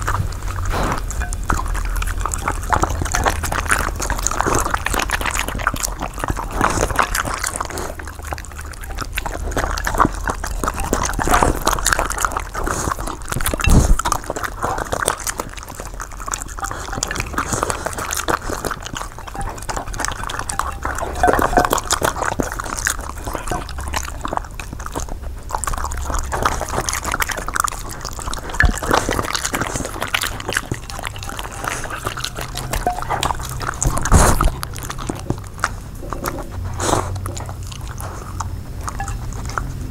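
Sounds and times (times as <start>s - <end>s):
dogs eating wet smacking: 0.0s - 39.9s.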